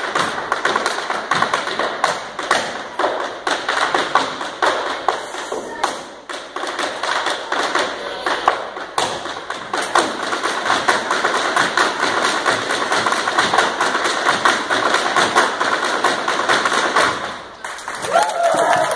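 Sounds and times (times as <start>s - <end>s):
hard shoes tapping wooden floor: 0.0s - 17.6s.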